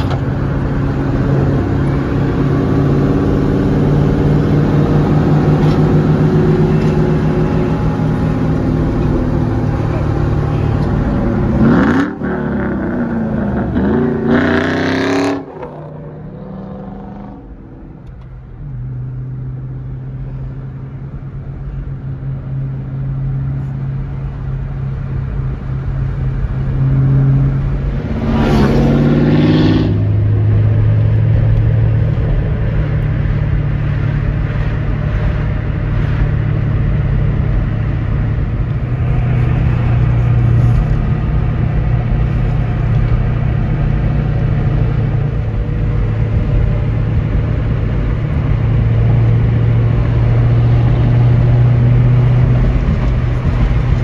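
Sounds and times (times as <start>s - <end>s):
car engine drone from inside cabin: 0.0s - 54.0s.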